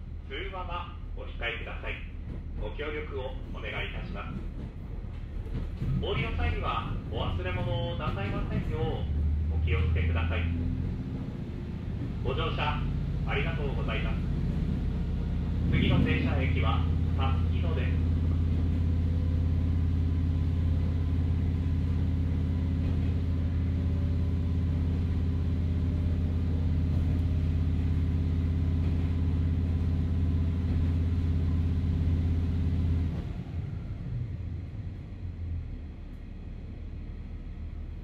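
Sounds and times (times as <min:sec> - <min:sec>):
diesel engine hum: 0:00.0 - 0:38.0.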